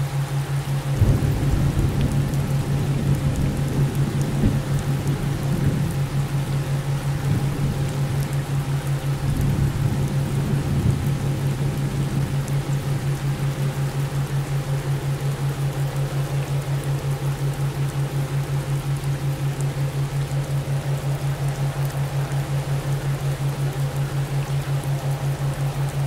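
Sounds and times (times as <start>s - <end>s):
rain and distant thunder: 0.0s - 26.0s
pulsing low hum: 1.0s - 26.0s.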